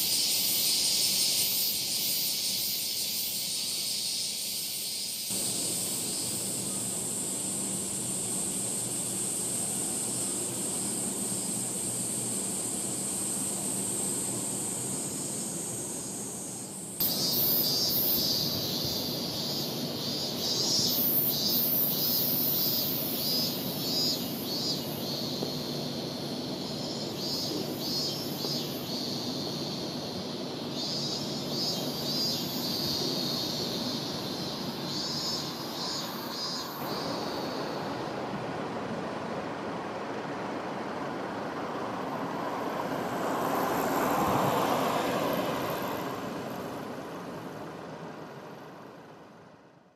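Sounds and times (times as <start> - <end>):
cicadas buzzing: 0.0 - 49.6
low hum of city traffic: 0.0 - 49.9.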